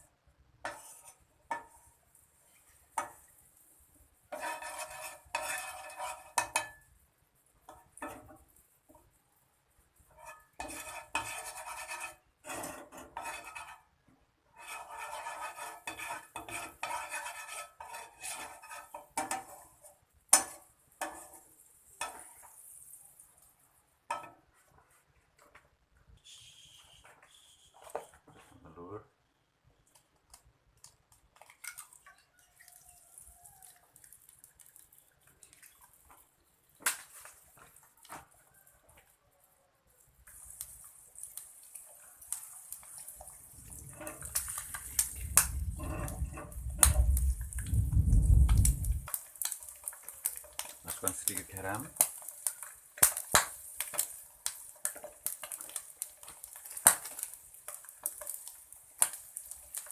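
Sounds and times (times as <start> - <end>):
egg sizzling in a pan: 0.0 - 24.9, 29.9 - 59.9.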